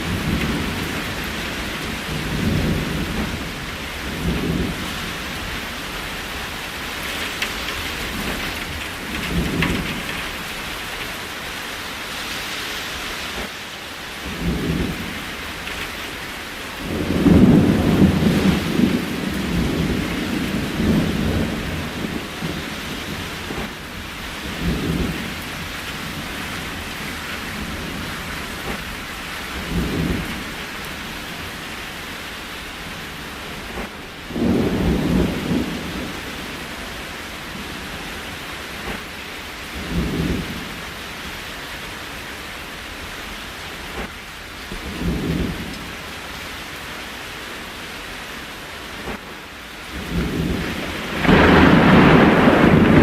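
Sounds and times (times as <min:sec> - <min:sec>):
thunder rumbling: 0:00.0 - 0:11.5, 0:14.2 - 0:41.4, 0:43.8 - 0:46.1, 0:48.9 - 0:53.0
steady rain: 0:00.0 - 0:53.0.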